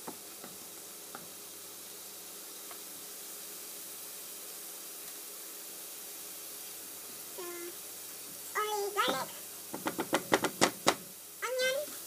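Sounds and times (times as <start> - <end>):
garlic sizzling in a frying pan: 0.0 - 12.0.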